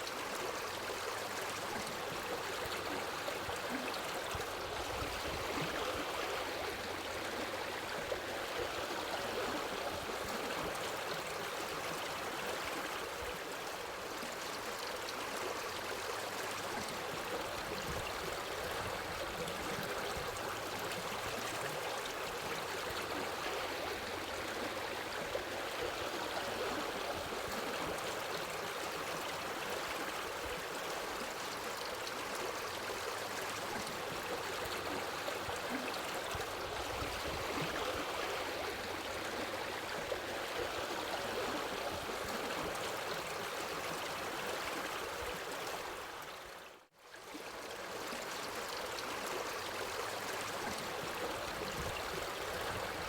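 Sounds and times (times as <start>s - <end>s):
trickling water: 0.0s - 53.0s.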